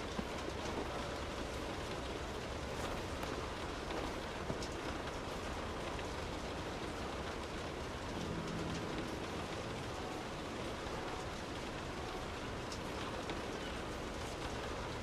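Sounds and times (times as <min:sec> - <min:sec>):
soft rain on a surface: 0:00.0 - 0:15.0.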